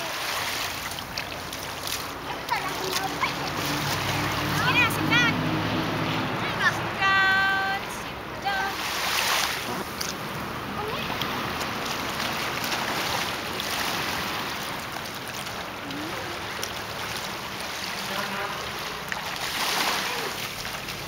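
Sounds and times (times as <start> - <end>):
small waves washing on beach: 0.0 - 21.0.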